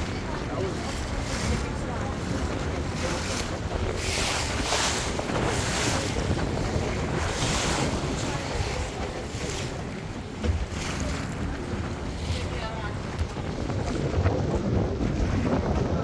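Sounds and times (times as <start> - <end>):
low boat engine rumble: 0.0 - 16.0
water rushing past hull: 0.0 - 16.0
wind buffeting microphone: 0.0 - 16.0.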